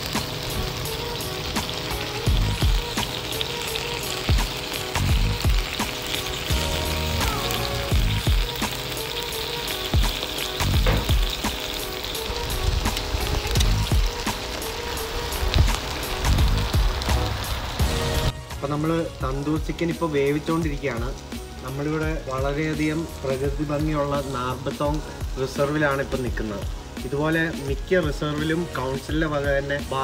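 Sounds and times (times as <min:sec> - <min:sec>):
background music with low beat: 0:00.0 - 0:30.0
chicken sizzling on foil: 0:00.0 - 0:30.0.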